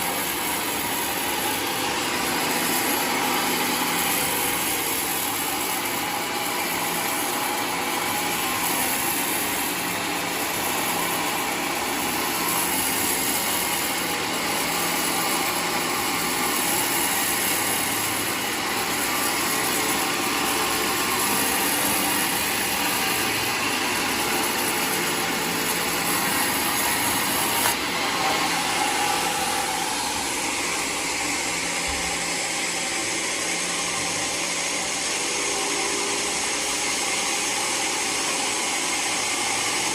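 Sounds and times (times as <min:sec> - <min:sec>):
sawmill blade sawing log: 0:00.0 - 0:39.9.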